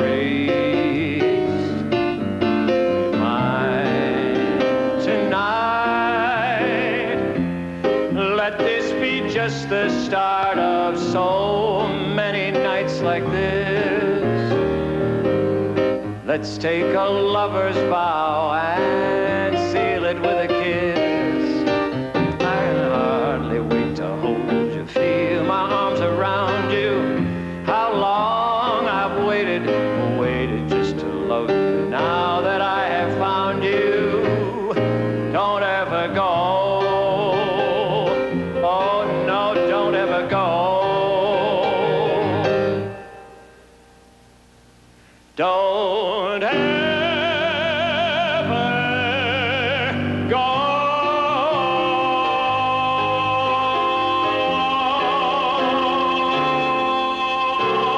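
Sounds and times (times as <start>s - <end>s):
sung ballad with accompaniment: 0.0s - 44.2s, 45.0s - 57.9s
song with long vibrato notes: 0.0s - 44.8s, 45.4s - 57.9s.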